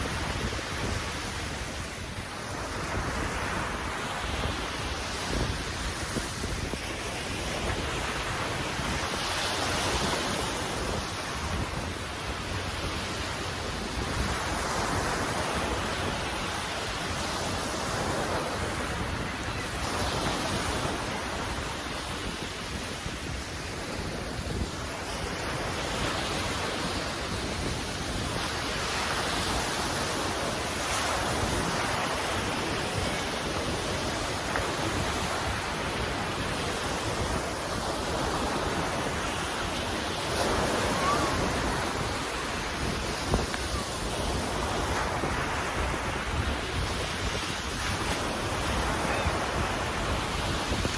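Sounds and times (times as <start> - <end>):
ocean surf washing in: 0.0 - 50.9
wind rumbling on microphone: 0.0 - 50.9.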